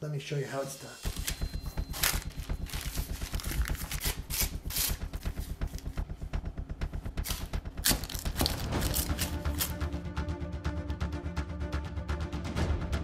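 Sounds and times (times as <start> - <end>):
steady bass: 1.1 - 13.0.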